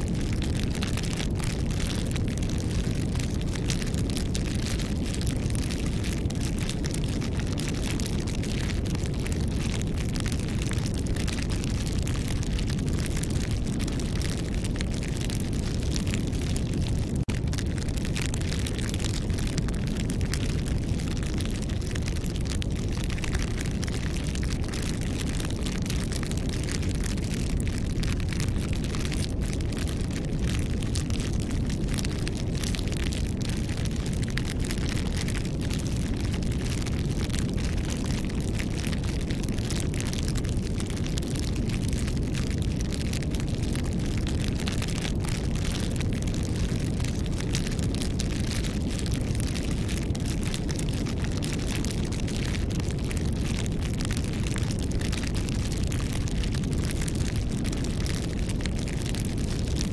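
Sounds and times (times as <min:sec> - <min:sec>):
campfire crackling and popping: 0:00.0 - 0:59.9
low fire rumble: 0:00.0 - 0:59.9.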